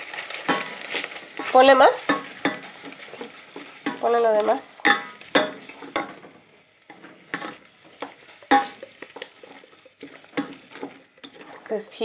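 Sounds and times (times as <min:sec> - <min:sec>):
utensil stirring pasta in pot: 0:00.0 - 0:12.0
utensil clinking against metal pot: 0:01.4 - 0:06.3, 0:06.9 - 0:12.0.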